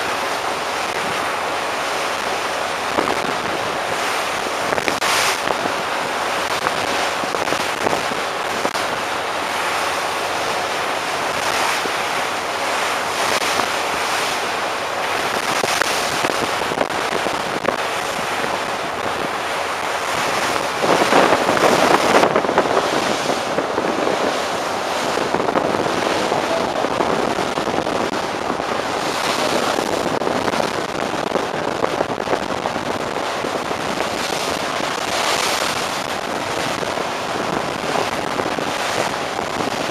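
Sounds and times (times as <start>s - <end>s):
sea rushing along hull: 0.0s - 39.9s
wind buffeting microphone: 0.0s - 39.9s.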